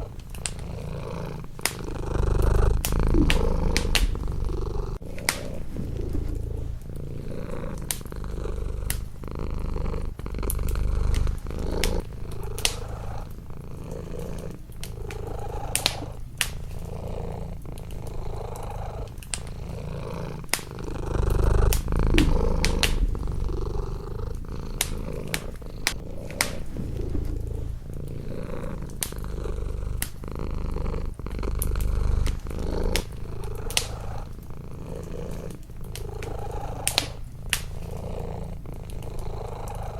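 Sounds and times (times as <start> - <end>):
wood fire crackling: 0.0 - 39.7
cat purring: 0.0 - 39.9.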